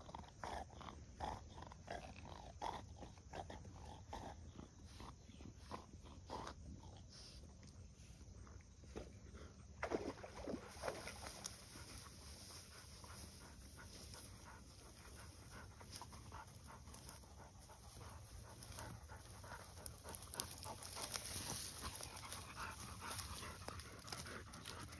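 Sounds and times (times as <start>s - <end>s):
dog panting: 0.0s - 8.6s, 11.3s - 24.9s.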